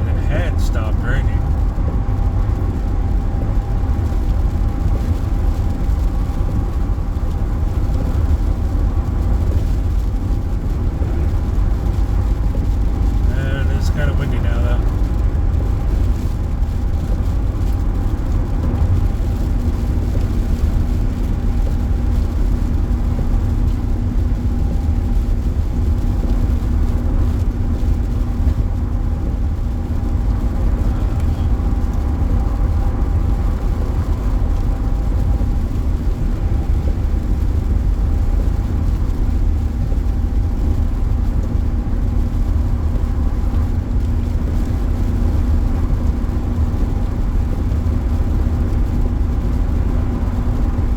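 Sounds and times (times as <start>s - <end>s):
car cabin road noise: 0.0s - 50.9s.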